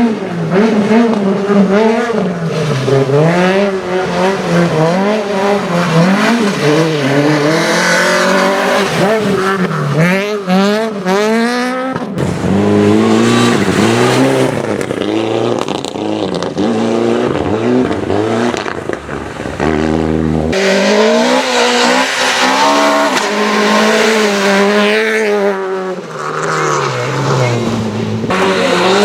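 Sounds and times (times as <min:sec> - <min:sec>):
rally car engines revving hard: 0:00.0 - 0:29.0.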